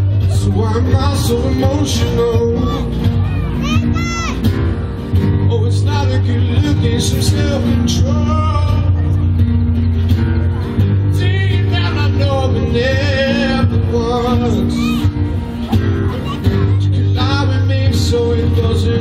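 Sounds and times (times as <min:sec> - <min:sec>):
pop music bass and guitar: 0:00.0 - 0:19.0.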